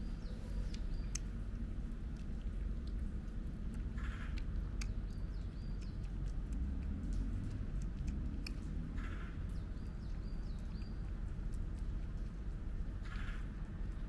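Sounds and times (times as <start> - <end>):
low rumble: 0.0 - 14.0
cat chewing clicks: 0.5 - 14.0.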